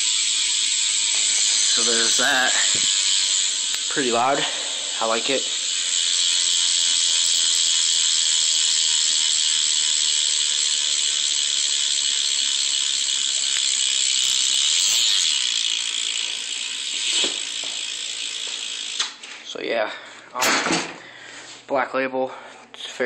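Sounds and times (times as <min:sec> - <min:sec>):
bicycle hub ratcheting buzz: 0:00.0 - 0:19.3.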